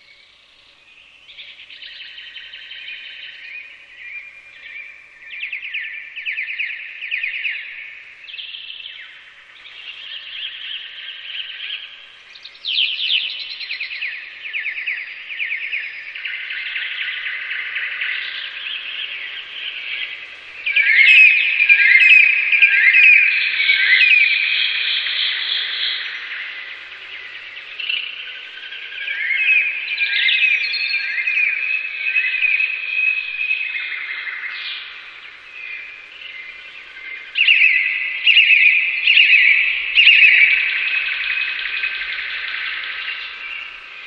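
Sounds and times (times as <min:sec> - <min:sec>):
slowed birdsong chirps and trills: 0:00.0 - 0:44.0.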